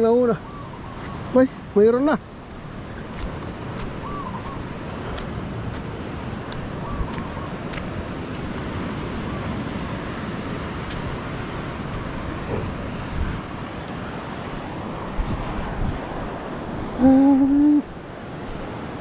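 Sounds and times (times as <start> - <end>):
surf at water's edge: 0.0 - 19.0
wind rushing: 2.6 - 19.0.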